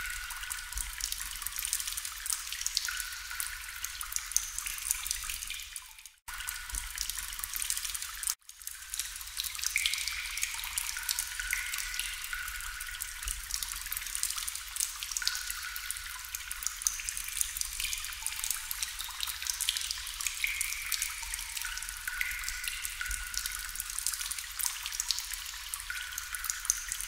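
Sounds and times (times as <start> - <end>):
trickling water hiss: 0.0 - 27.0.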